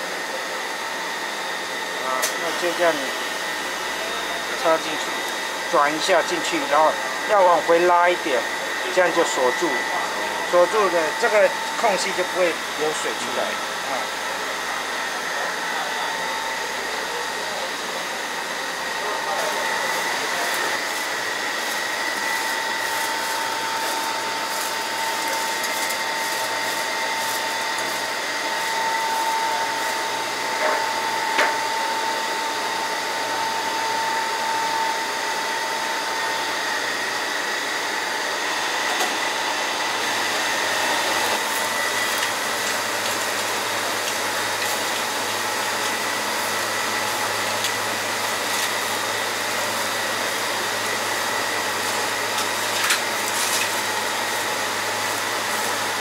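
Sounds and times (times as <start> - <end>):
electric fan whirring: 0.0 - 56.0.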